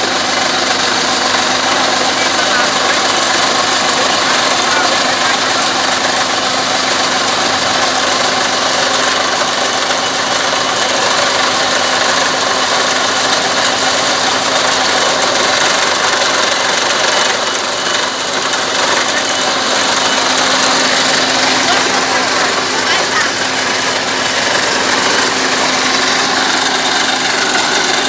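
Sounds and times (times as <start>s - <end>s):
drilling rig running: 0.0s - 28.0s
water gushing: 0.0s - 28.0s.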